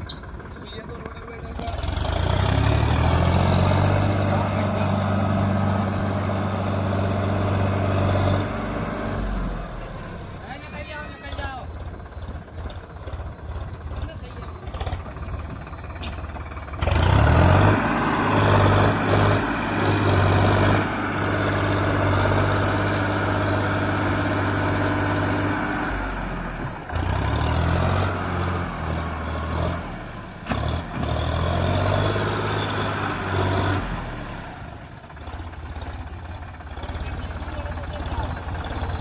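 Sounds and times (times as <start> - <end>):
tractor diesel engine revving: 0.0 - 39.0.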